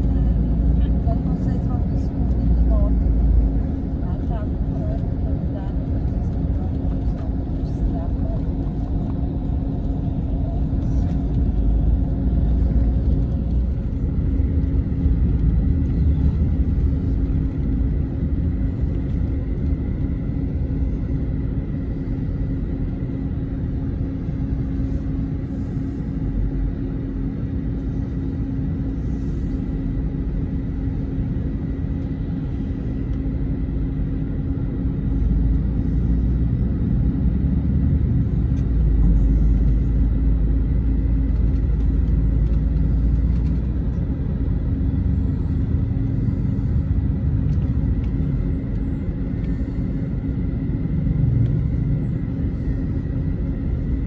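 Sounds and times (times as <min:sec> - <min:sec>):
bus engine and road rumble: 0:00.0 - 0:54.0
constant hum: 0:00.0 - 0:54.0.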